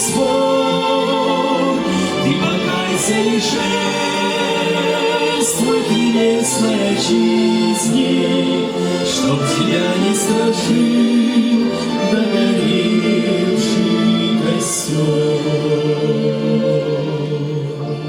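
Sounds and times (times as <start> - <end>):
violin orchestra: 0.0 - 18.0
voices singing held notes: 0.0 - 18.0.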